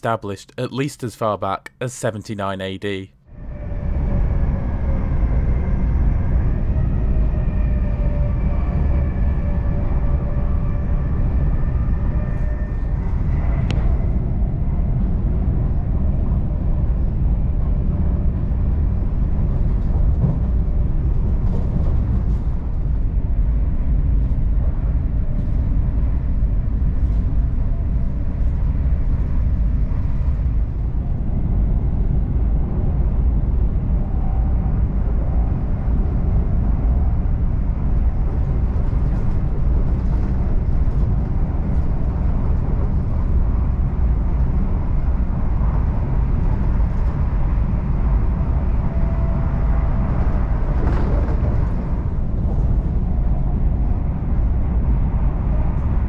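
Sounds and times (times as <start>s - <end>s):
electric train rumble: 3.2s - 56.0s.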